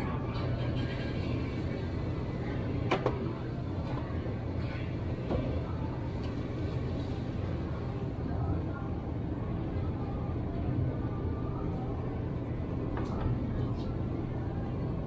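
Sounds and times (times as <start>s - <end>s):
refrigerator hum: 0.0s - 15.0s.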